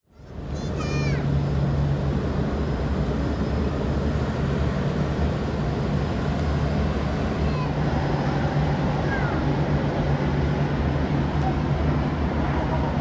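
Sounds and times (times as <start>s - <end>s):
jet engines droning: 0.2s - 13.0s.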